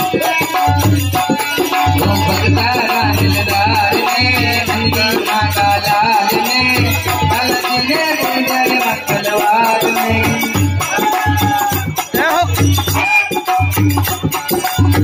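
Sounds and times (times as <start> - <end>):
devotional folk music: 0.0 - 15.0
drum: 0.0 - 15.0
rattling hand percussion: 0.0 - 15.0.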